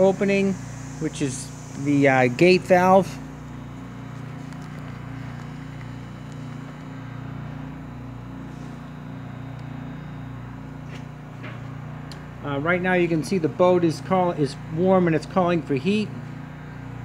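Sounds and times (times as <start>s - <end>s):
vacuum pumps humming: 0.0s - 17.0s.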